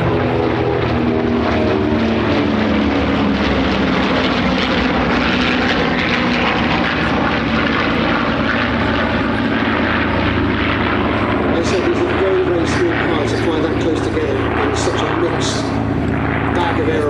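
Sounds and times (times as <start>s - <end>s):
propeller aircraft flying past: 0.0s - 17.0s.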